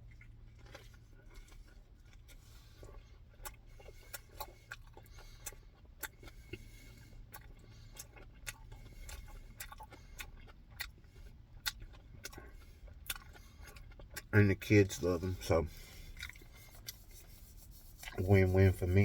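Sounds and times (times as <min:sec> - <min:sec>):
mouth clicks and smacks chewing: 0:00.0 - 0:18.7
steady low hum: 0:00.0 - 0:19.0.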